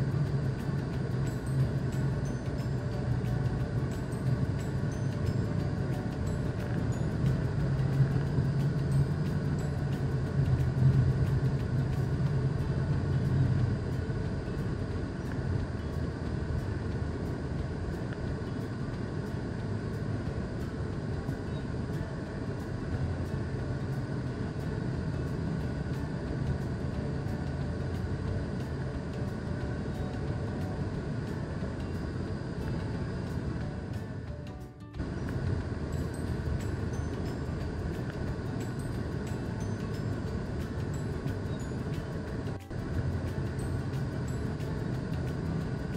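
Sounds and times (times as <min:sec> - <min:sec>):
road noise inside car: 0:00.0 - 0:45.9.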